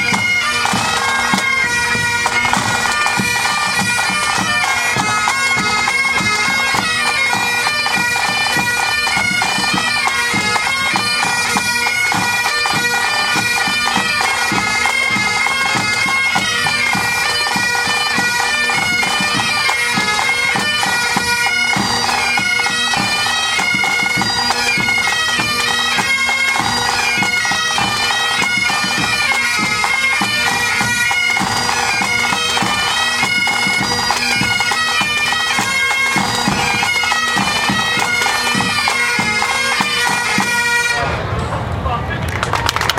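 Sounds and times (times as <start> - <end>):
bagpipes playing: 0.0 - 41.1.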